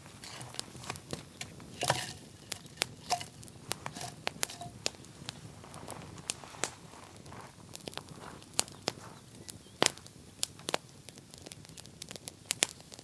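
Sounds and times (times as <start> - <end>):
wood campfire crackling: 0.0 - 13.0.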